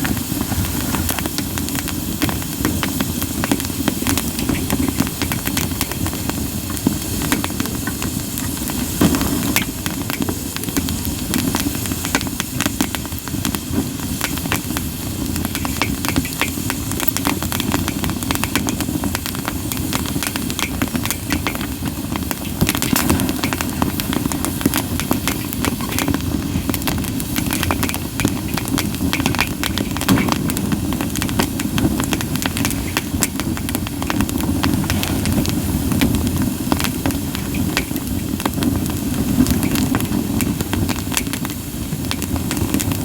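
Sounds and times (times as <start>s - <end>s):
campfire crackling and popping: 0.0s - 43.0s
fire hissing: 0.0s - 43.0s.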